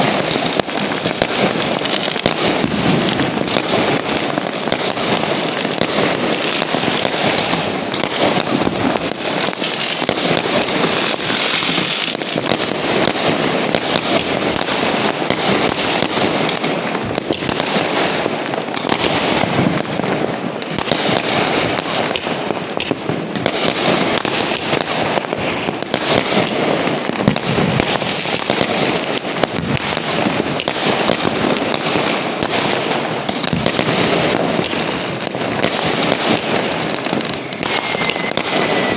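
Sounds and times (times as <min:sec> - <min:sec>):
firecrackers crackling barrage: 0:00.0 - 0:38.9.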